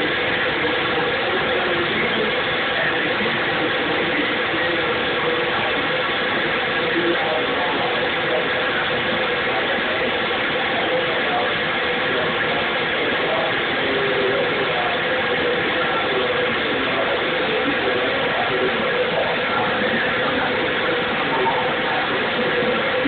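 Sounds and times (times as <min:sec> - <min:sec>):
faint murmur: 0:00.0 - 0:23.0.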